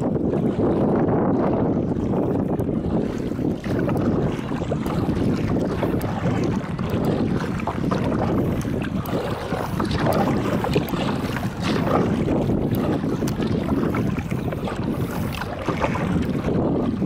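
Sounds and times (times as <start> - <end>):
water splashing against kayak: 0.0 - 17.0
wind rumbling on microphone: 0.0 - 17.0.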